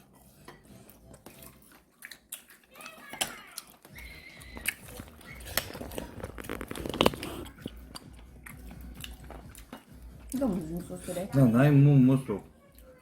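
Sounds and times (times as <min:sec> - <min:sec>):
person chewing: 0:00.0 - 0:10.7.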